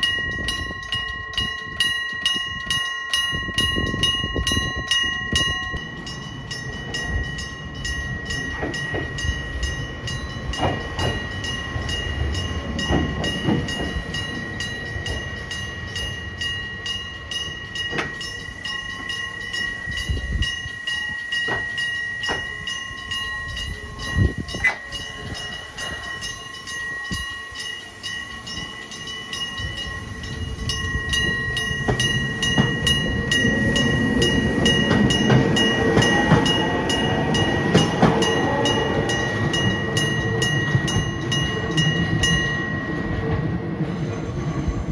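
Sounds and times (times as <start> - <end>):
railway crossing bell ringing: 0.0 - 44.8
train wheels rumbling: 0.0 - 44.9.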